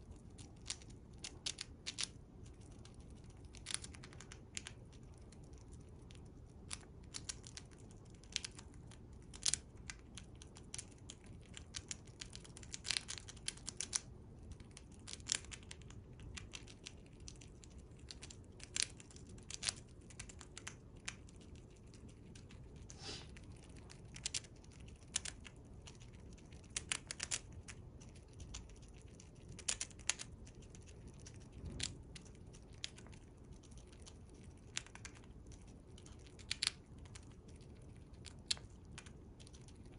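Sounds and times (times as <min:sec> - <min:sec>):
chipmunk gnawing food: 0:00.0 - 0:39.9.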